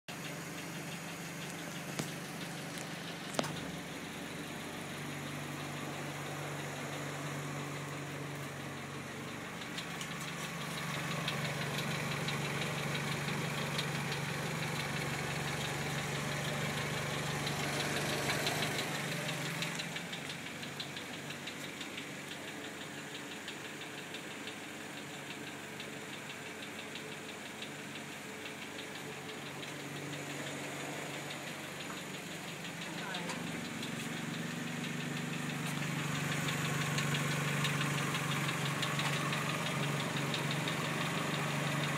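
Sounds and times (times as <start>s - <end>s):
car engine idling: 0.1s - 41.9s
loud rapid engine clicking: 0.1s - 41.9s.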